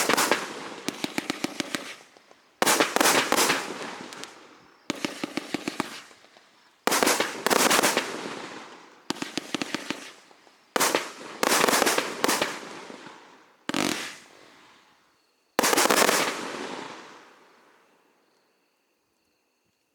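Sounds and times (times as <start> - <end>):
fireworks crackling pops: 0.0 - 14.9, 15.6 - 17.3.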